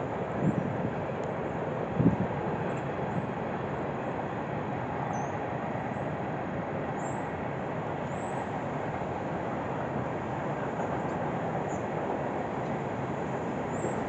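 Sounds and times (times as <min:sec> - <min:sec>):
distant freight train rumbling: 0:00.0 - 0:14.0.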